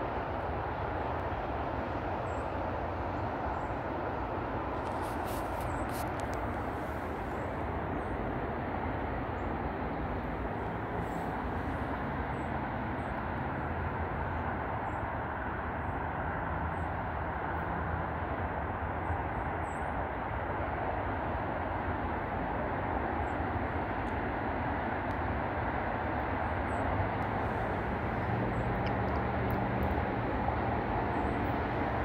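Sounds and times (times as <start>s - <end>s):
outdoor rumble and hiss: 0.0s - 32.0s.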